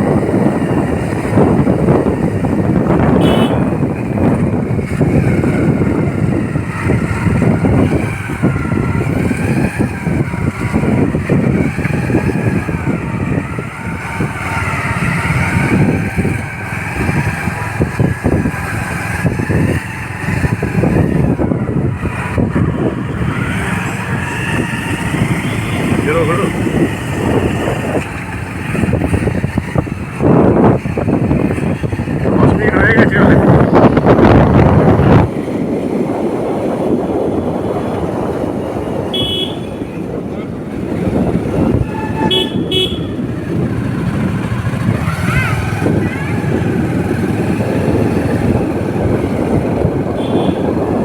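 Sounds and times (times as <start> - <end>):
motorcycle engine running: 0.0 - 51.0
road noise of moving bike: 0.0 - 51.0
wind buffeting microphone: 0.0 - 51.0.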